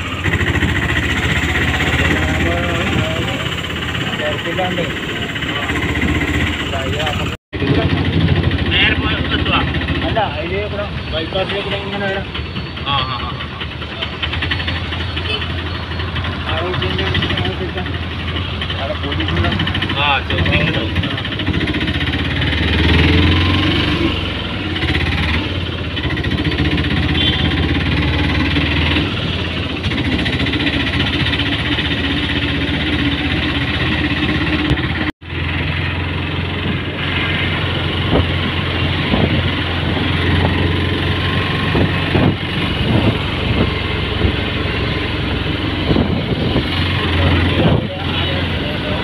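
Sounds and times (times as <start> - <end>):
small engine running: 0.0 - 10.7, 13.6 - 49.0
road noise: 0.0 - 49.0.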